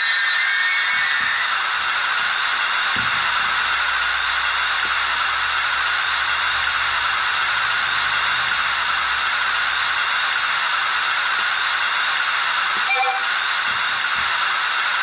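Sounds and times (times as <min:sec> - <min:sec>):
locomotive running noise hiss: 0:00.0 - 0:15.0.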